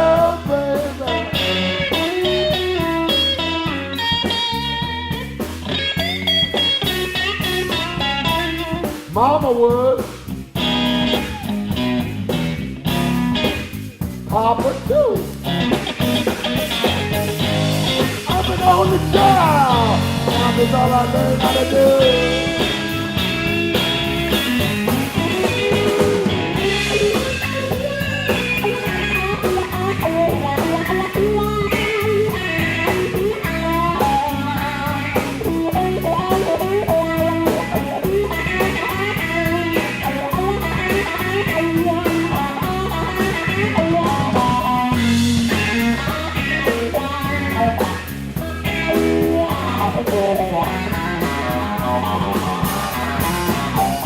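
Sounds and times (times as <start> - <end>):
bass and drums: 0.0 - 54.0
electric guitar soloing: 0.0 - 54.0.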